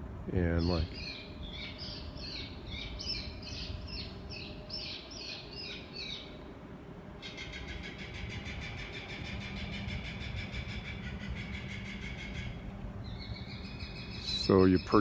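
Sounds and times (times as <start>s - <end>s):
steady pitched hum: 0.0s - 15.0s
owl fledglings screeching: 0.6s - 6.4s, 7.2s - 15.0s.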